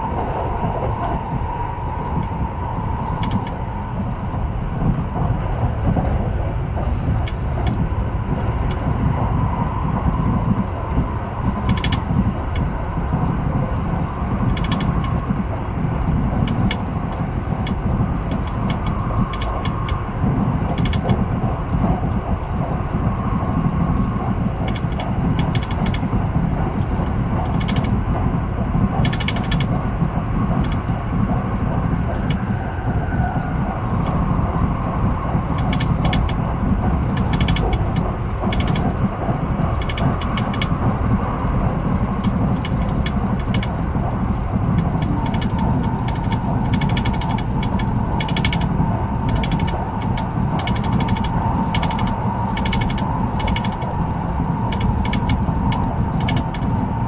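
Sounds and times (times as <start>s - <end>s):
clicking and rattling: 0.0s - 4.0s, 4.8s - 9.1s, 10.4s - 28.3s, 29.0s - 34.2s, 34.8s - 57.0s
train running gear rumble: 0.0s - 57.0s.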